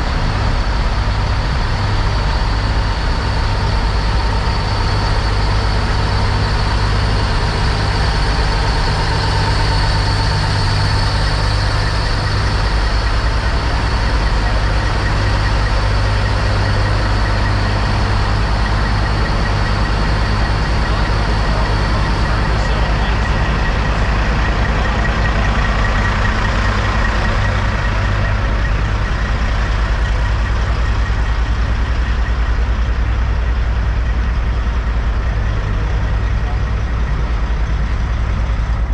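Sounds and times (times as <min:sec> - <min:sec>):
diesel truck engines idling: 0:00.0 - 0:38.9.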